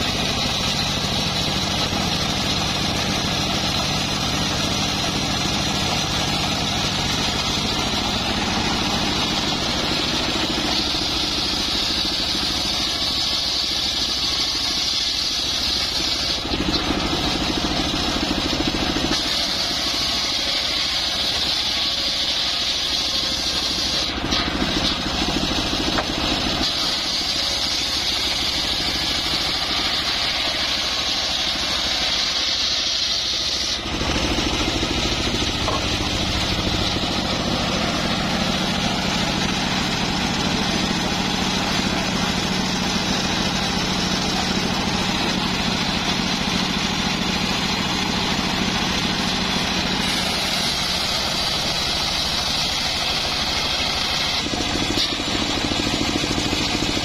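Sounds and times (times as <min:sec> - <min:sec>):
saw blade cutting log whine: 0:00.0 - 0:57.0
sawmill engine running: 0:00.0 - 0:57.0.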